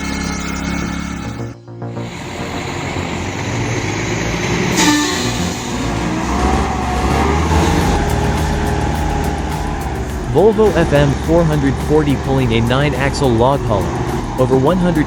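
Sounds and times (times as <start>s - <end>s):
truck diesel engine running: 2.1s - 15.0s.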